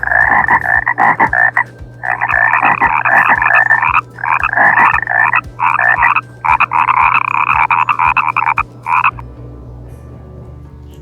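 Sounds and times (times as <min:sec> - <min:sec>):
frogs croaking: 0:00.0 - 0:09.2.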